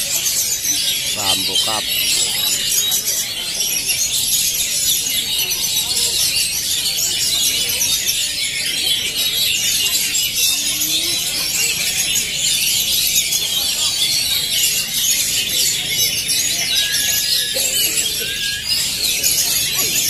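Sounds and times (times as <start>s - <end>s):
chorus of songbirds singing: 0.0s - 20.0s.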